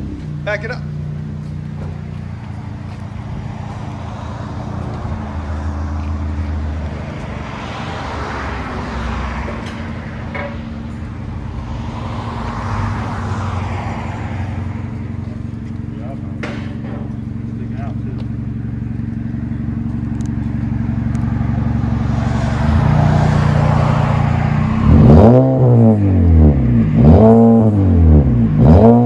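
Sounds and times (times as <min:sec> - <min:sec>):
car exhaust low drone: 0:00.0 - 0:29.0.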